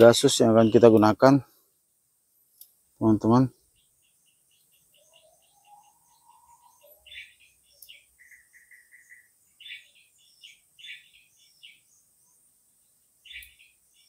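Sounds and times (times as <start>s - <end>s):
faint small birds chirping: 0.0s - 14.0s.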